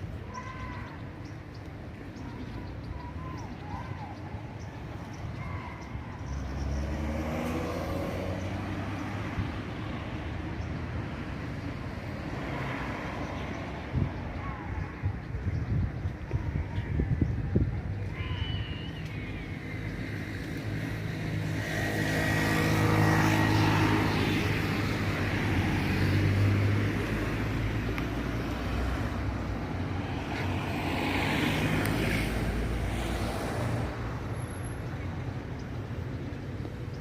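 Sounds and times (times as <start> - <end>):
outdoor noise: 0.0 - 37.0.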